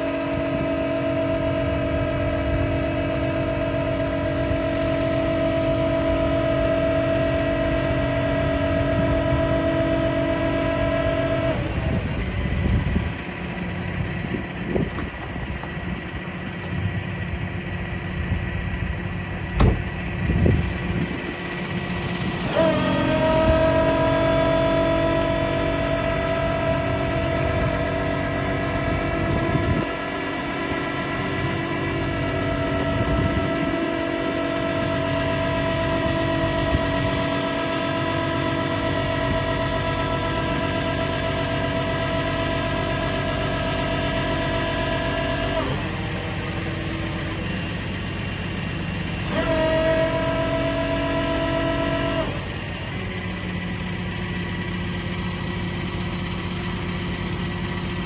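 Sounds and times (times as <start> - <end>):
hydraulic winch whining: 0.0 - 58.0
truck engine idling: 0.0 - 58.0.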